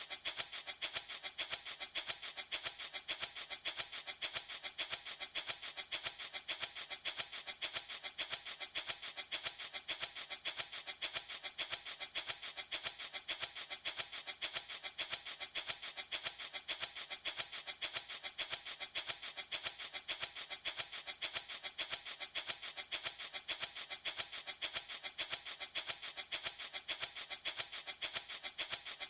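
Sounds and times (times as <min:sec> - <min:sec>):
baby rattle shaken: 0:00.0 - 0:29.0.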